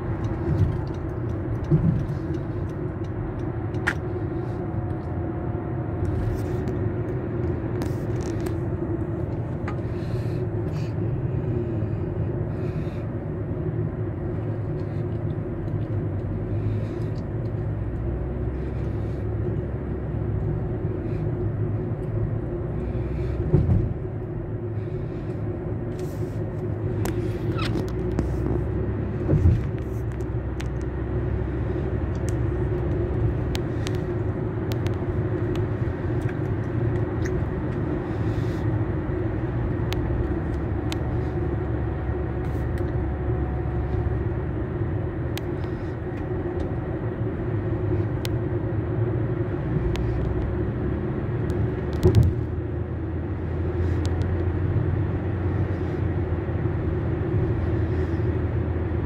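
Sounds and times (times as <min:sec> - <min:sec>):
car road noise rumble: 0:00.0 - 0:59.0.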